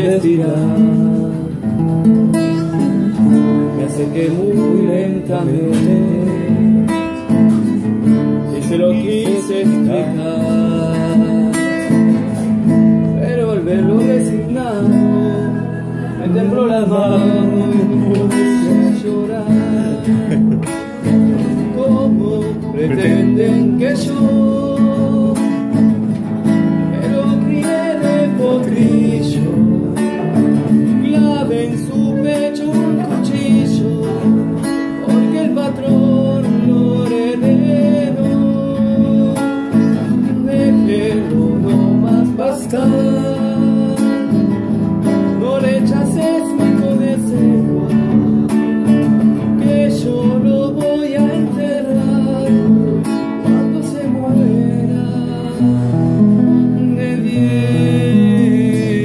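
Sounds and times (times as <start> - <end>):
man singing folk song: 0.0 - 59.0
strummed acoustic guitar: 0.0 - 59.0.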